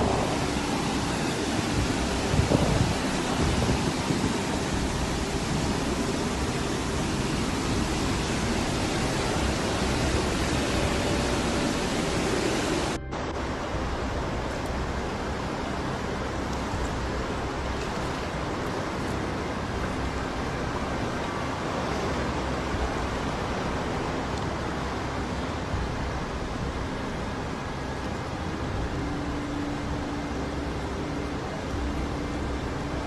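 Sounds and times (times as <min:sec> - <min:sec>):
floodwater rushing: 0:00.0 - 0:33.0.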